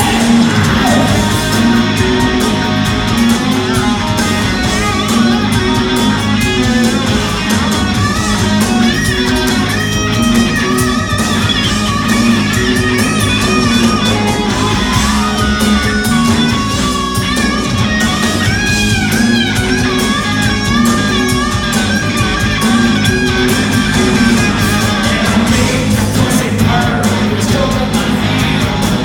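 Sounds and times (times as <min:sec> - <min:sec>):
bass guitar: 0:00.0 - 0:29.0
distorted electric guitar lead: 0:00.0 - 0:29.0
drums: 0:00.0 - 0:29.0.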